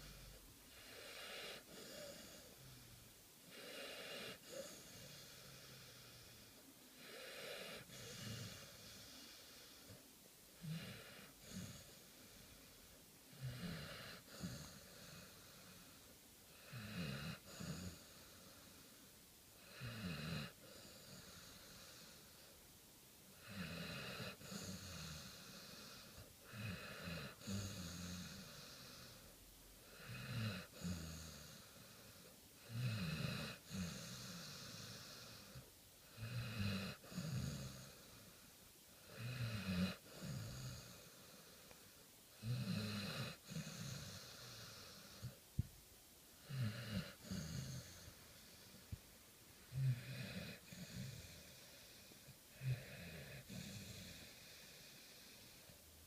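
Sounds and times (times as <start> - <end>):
dog snoring: 0.0 - 10.0, 10.6 - 19.0, 19.6 - 22.6, 23.3 - 45.4, 46.4 - 49.0, 49.6 - 55.8.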